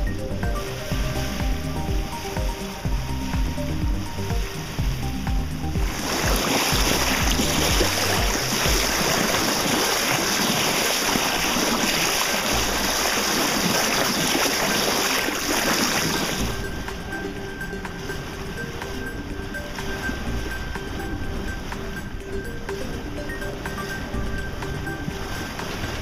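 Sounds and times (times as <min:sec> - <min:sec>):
water rushing along boat hull: 0:00.0 - 0:26.0.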